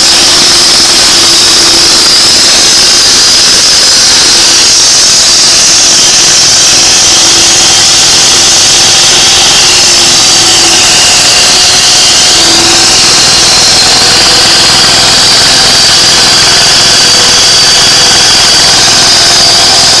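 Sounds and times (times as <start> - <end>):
concrete cutting saw running: 0.0 - 20.0
high-pitched blade whine: 0.0 - 20.0.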